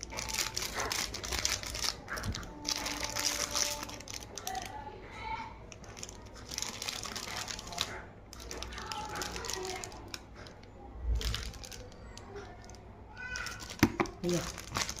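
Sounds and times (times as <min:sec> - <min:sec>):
plastic packaging crinkling: 0:00.0 - 0:04.8, 0:05.6 - 0:15.0
small clicks and crackles: 0:00.0 - 0:15.0.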